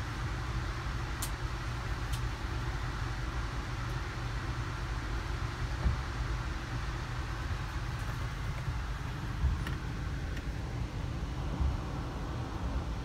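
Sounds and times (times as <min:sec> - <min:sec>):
train coach rumbling on rails: 0:00.0 - 0:13.0.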